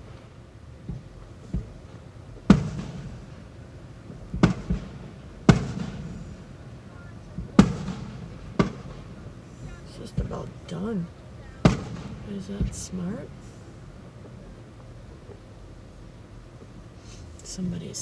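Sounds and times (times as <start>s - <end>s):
fireworks booming: 0.0s - 18.0s.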